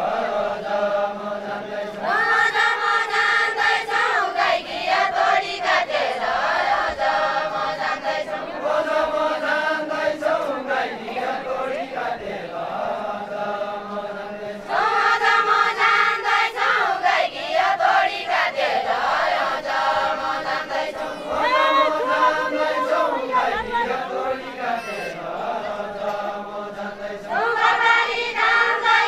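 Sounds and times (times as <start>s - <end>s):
women singing folk song: 0.0s - 29.0s.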